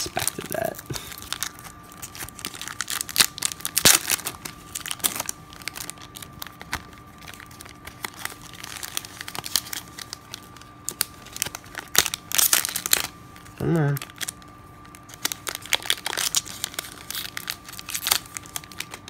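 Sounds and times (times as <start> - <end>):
foil wrapper crinkling: 0.0 - 19.0.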